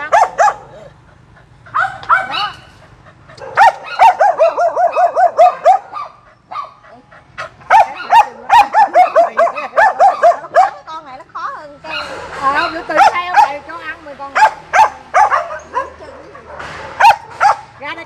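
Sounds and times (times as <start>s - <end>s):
dog yelping barks: 0.0s - 1.0s, 1.6s - 11.0s, 11.8s - 13.6s, 14.3s - 17.9s.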